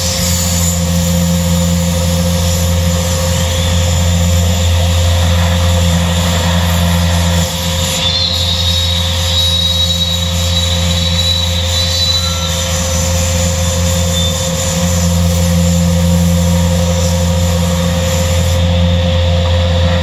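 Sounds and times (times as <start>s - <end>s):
panel saw machine drone: 0.0s - 20.0s.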